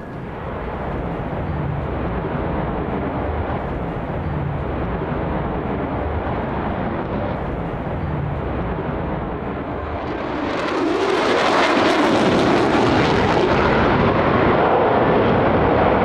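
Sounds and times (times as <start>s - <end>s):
jet engine deep rumble: 0.0s - 16.0s.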